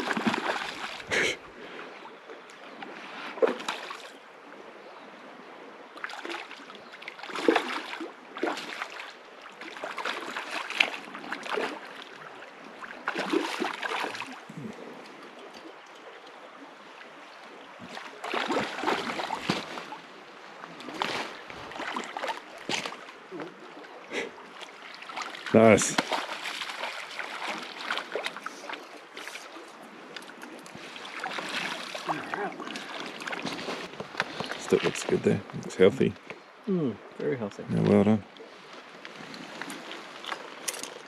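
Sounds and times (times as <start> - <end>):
river water splashing: 0.0 - 41.0
rushing stream: 0.0 - 41.0.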